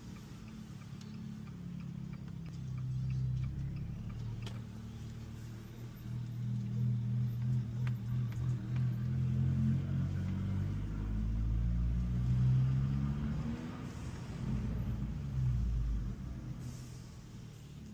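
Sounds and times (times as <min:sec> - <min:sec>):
car engine exhaust rumble: 0:00.0 - 0:17.9.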